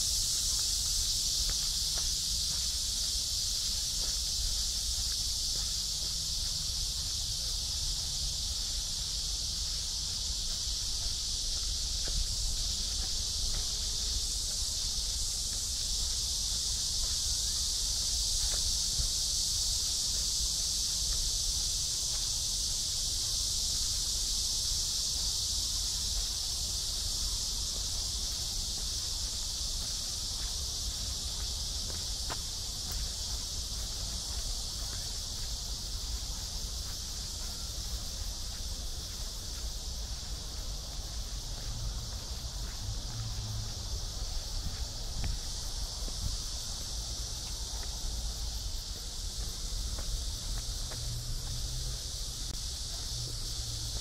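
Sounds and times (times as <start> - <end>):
faint footsteps on a path: 0.0 - 54.0
high-pitched insect chorus: 0.0 - 54.0.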